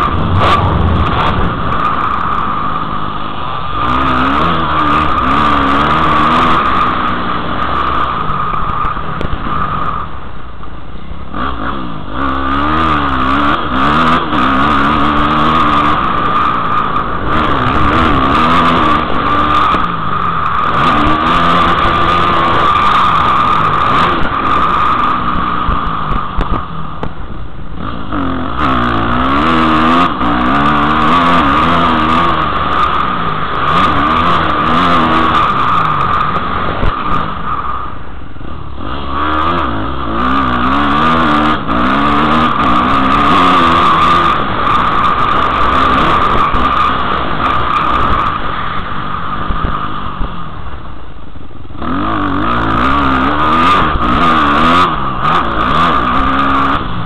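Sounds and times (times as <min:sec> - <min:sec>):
dirt bike engine revving: 0:00.0 - 0:10.2, 0:11.3 - 0:26.7, 0:27.7 - 0:49.8, 0:51.8 - 0:57.0.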